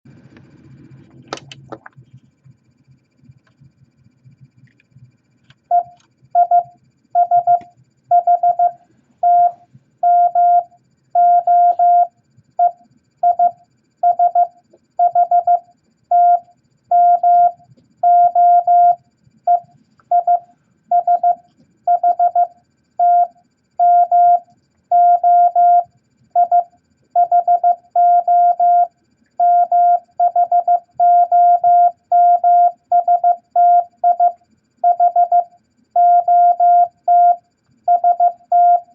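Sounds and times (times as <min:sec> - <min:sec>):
morse code beeps: 0:05.7 - 0:38.9.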